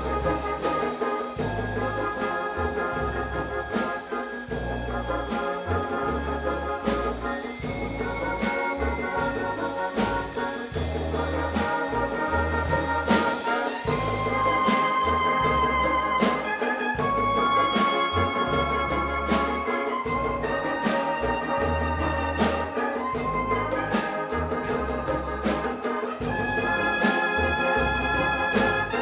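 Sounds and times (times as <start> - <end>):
low bass line: 0.0 - 0.8, 1.4 - 3.8, 4.5 - 13.3, 13.9 - 16.3, 17.0 - 29.0
steady drumbeat: 0.0 - 29.0
trumpets and trombones chords: 0.0 - 29.0.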